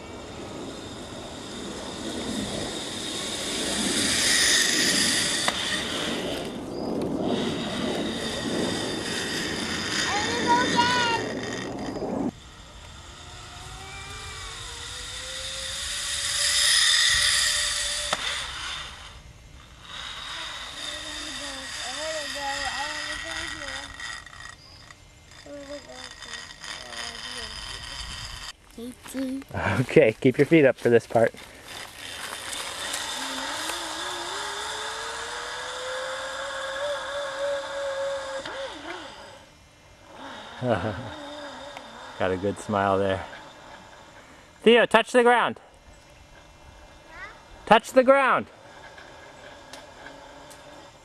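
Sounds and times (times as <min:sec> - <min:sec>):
zipline pulley whirring on cable: 0:00.0 - 0:51.0.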